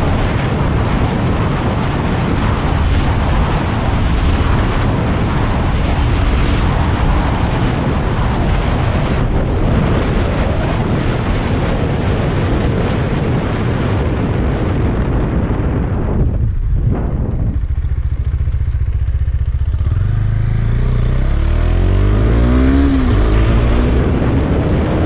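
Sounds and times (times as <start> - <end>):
motorcycle engine at speed: 0.0 - 25.0
wind buffeting microphone: 0.0 - 25.0.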